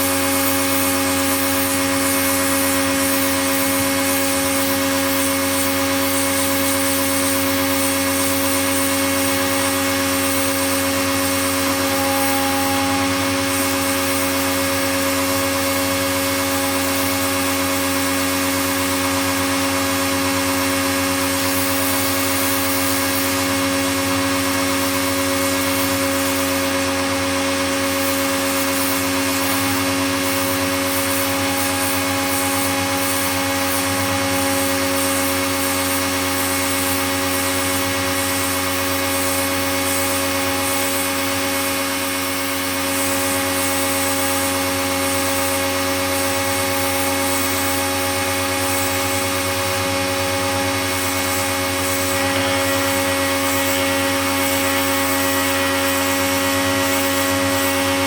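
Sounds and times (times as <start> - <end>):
pressure washer running: 0.0 - 58.0.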